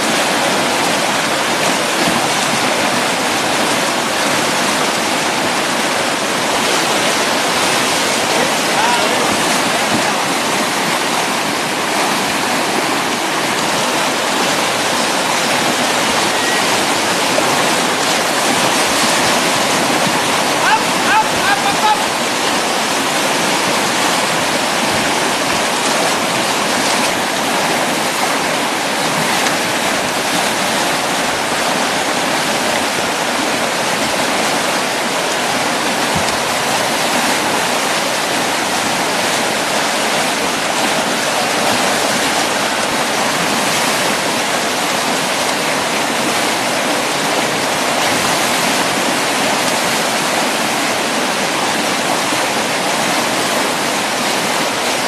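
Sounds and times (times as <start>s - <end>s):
whitewater rushing: 0.0s - 55.0s.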